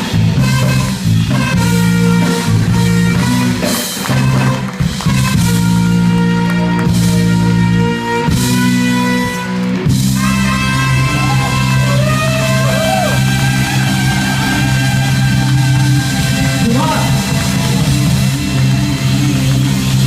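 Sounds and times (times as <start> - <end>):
electric guitar chords: 0.0 - 20.0
rock band playing: 0.0 - 20.0.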